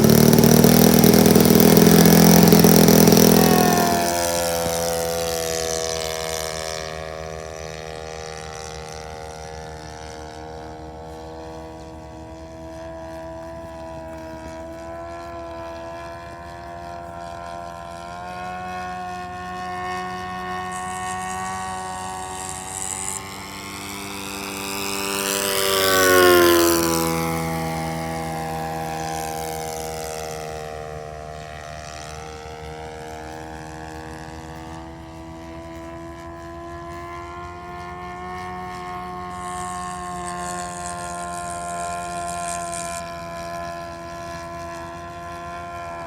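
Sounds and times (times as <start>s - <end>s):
model plane propeller buzzing: 0.0s - 46.0s.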